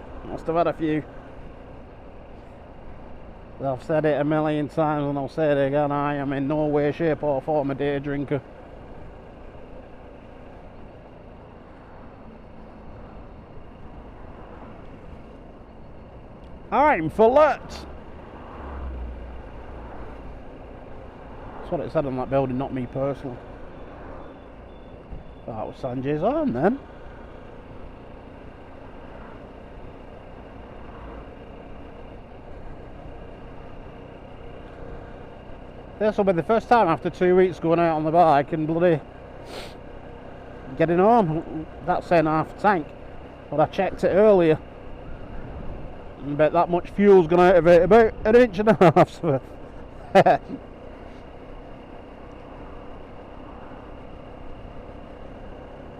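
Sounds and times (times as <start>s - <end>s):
motorcycle running: 0.0s - 55.9s
road noise: 0.0s - 55.9s
wind: 0.0s - 55.9s.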